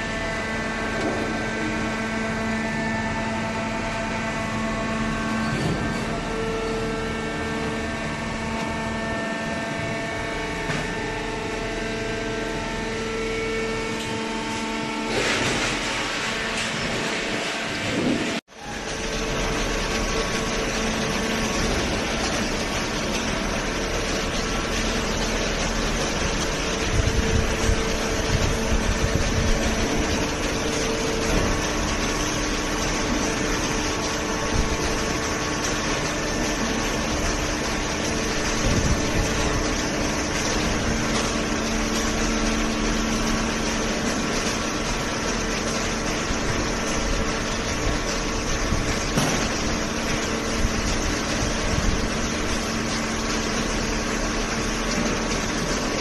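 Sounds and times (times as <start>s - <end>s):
baler mechanical hum and hiss: 0.0s - 56.0s.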